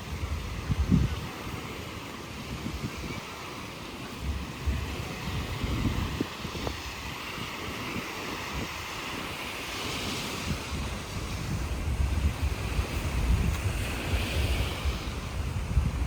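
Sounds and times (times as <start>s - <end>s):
sea surf: 0.0s - 16.0s
wind buffeting microphone: 0.0s - 16.0s.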